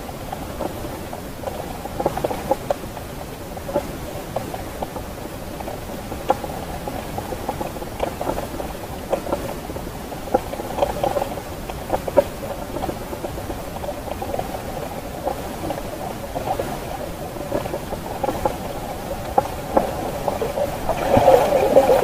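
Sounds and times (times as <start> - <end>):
small underwater clicks and crackles: 0.0 - 22.0.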